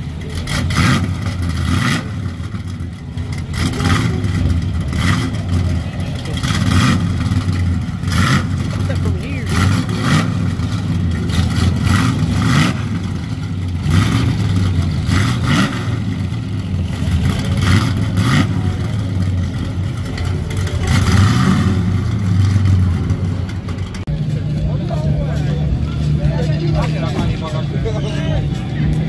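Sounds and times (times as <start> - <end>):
car engine idling with lumpy rumble: 0.0 - 29.0
engine revving: 0.0 - 29.0.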